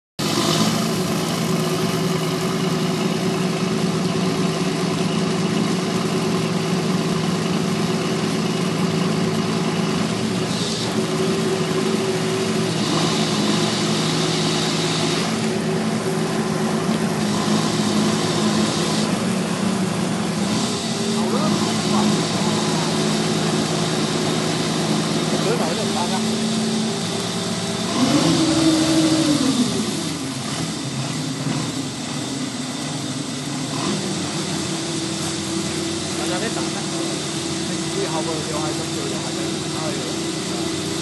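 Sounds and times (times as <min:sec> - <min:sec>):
boat engine running: 0:00.2 - 0:41.0.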